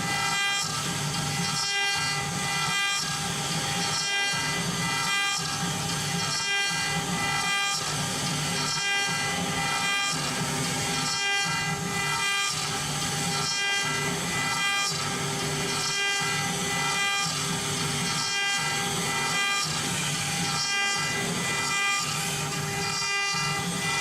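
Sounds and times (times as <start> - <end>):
rough cutting noise: 0.0 - 24.0
router spindle whining: 0.0 - 24.0.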